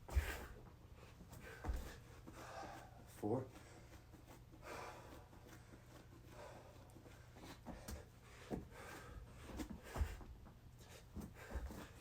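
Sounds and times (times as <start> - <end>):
hands and feet thumping floor: 0.0 - 0.6, 1.3 - 2.5, 4.0 - 12.0
heavy breathing: 0.1 - 12.0.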